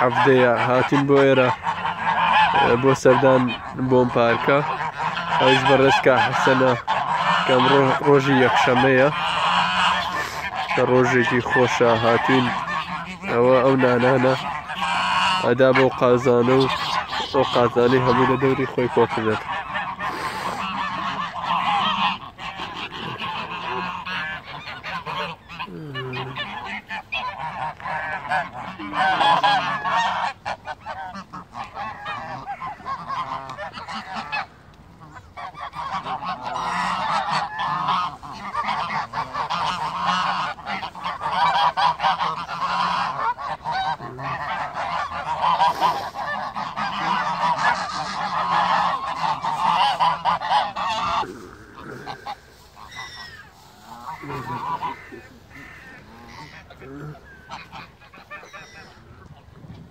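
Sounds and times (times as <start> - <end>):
geese honking: 0.0 - 59.9.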